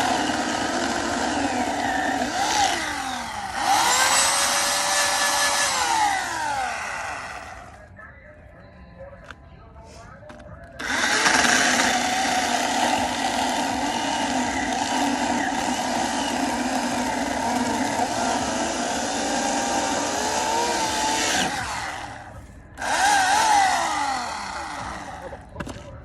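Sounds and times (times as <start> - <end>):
electric chainsaw running: 0.0 - 7.8, 10.8 - 25.4.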